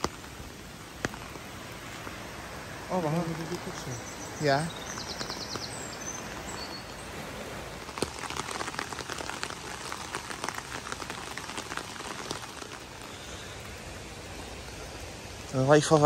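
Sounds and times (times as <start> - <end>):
raindrop ticks: 0.0 - 6.8, 7.8 - 16.0
light rain pattering on leaves: 0.0 - 16.0.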